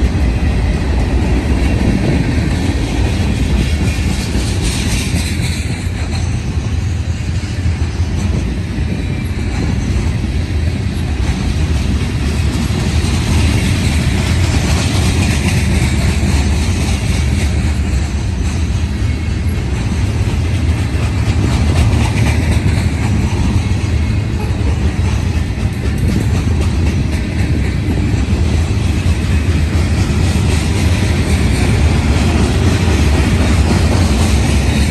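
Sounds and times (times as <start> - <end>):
freight train cars rolling past: 0.0 - 34.9.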